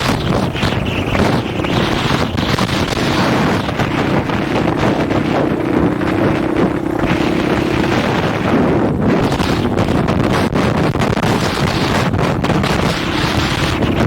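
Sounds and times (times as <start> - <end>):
dirt bike engine running: 0.0 - 14.0
wind buffeting microphone: 0.0 - 14.0.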